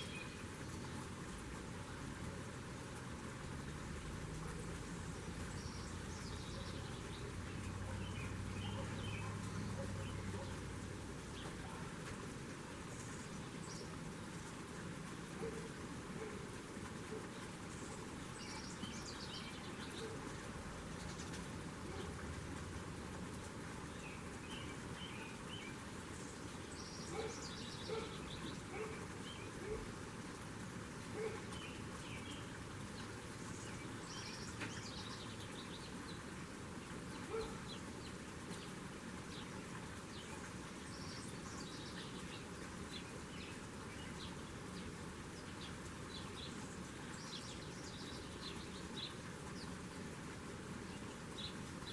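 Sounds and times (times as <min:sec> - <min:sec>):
outdoor background hiss: 0:00.0 - 0:51.9
small birds chirping: 0:00.0 - 0:51.9.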